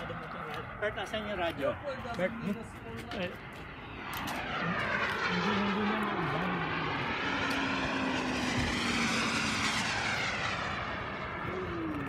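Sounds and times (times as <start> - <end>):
model jet engine rushing overhead: 0.0 - 12.0.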